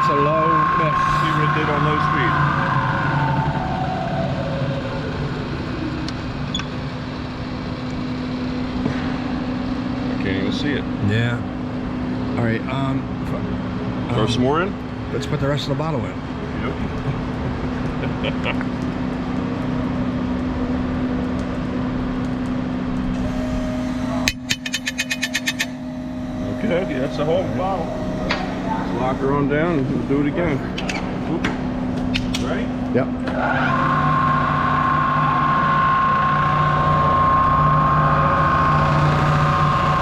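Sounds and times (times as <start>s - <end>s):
machinery hum: 0.0s - 40.0s.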